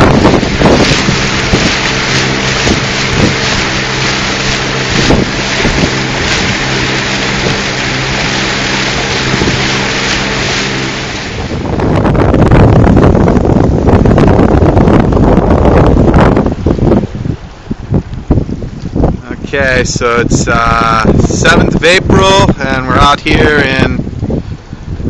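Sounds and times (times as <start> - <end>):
boat engine humming: 0.0 - 25.0
water churning: 0.0 - 25.0
wind buffeting microphone: 0.0 - 25.0.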